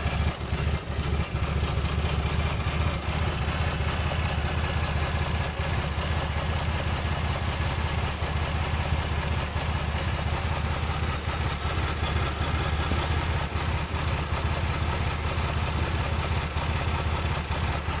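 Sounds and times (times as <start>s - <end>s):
car engine idling roughly: 0.0s - 18.0s.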